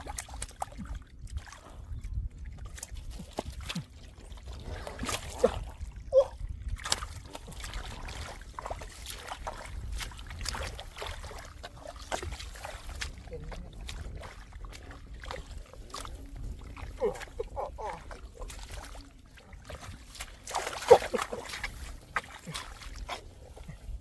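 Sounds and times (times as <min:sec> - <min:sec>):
splashing in muddy water: 0:00.0 - 0:24.0.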